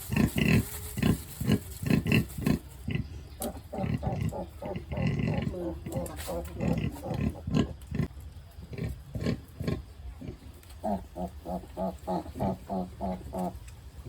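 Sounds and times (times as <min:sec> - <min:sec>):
pigs grunting: 0:00.0 - 0:13.6.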